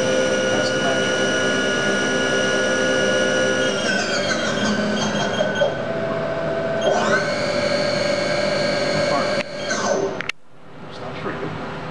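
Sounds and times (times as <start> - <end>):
mill spindle whining: 0.0 - 10.4.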